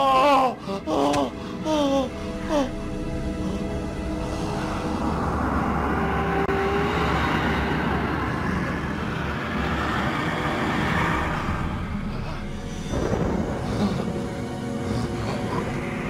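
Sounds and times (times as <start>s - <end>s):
low eerie music: 0.0s - 16.0s
rumbling rush of noise: 2.2s - 16.0s.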